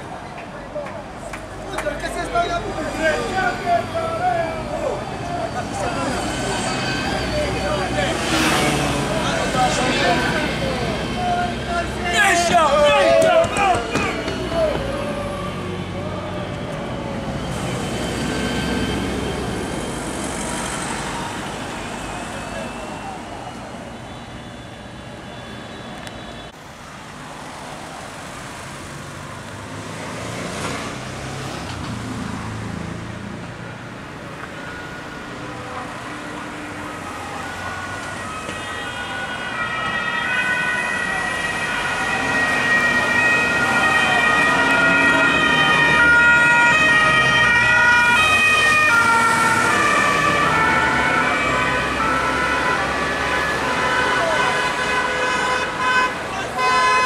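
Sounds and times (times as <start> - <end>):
road traffic passing: 0.0 - 57.0
police sirens: 1.0 - 26.6, 33.2 - 57.0.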